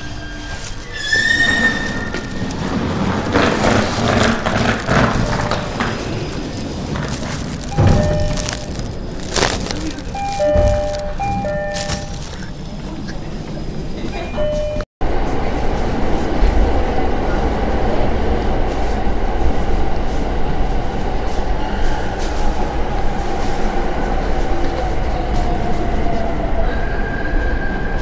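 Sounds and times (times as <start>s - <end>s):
train rumbling in a tunnel: 0.0s - 28.0s.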